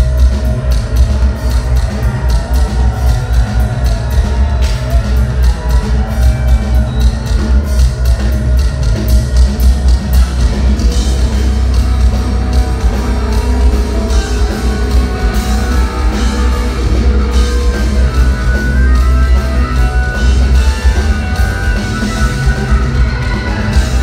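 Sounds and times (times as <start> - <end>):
live heavy rock band: 0.0 - 24.0.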